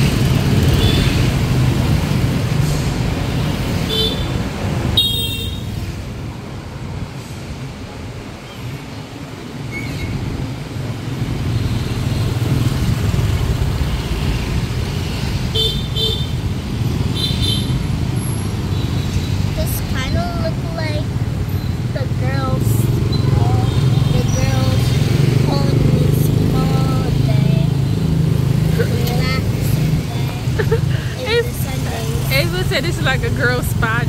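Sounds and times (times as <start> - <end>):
motorbike and scooter engines: 0.0 - 34.0.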